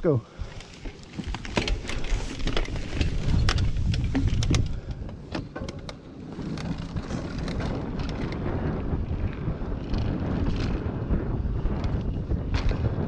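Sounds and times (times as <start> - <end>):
wind rumble on microphone: 0.1 - 13.0
bike tyres rattling over stones: 0.3 - 13.0.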